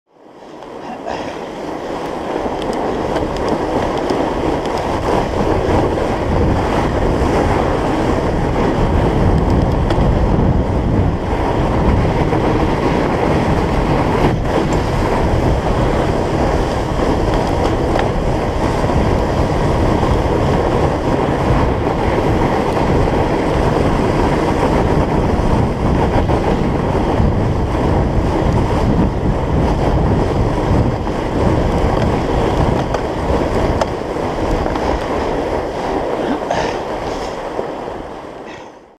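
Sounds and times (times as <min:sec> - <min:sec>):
bike tyres rolling on snow: 0:00.1 - 0:38.9
wind rumble on microphone: 0:00.1 - 0:38.9.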